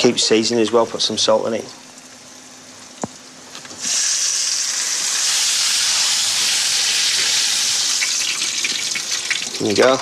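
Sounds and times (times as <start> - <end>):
beef sizzling in a frying pan: 1.9 - 10.0.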